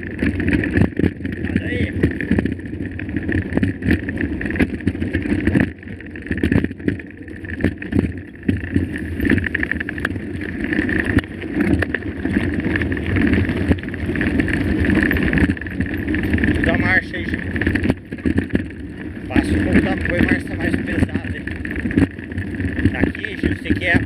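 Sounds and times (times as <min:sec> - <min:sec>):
bike rattling: 0:00.0 - 0:24.0
bike tyres on dirt: 0:00.0 - 0:24.0.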